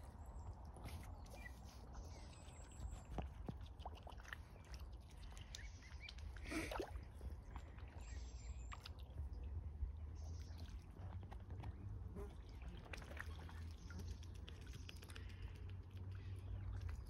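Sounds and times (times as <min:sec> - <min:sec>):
water dabbling and splashing: 0:00.4 - 0:17.0.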